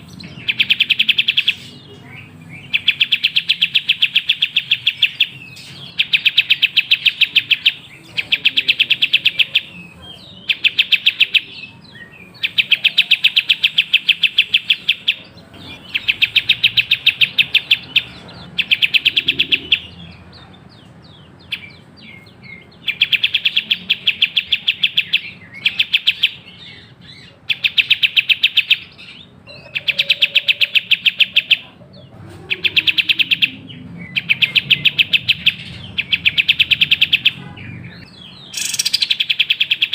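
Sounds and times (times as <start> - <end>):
songbird chattering chirps: 0.0 - 39.9.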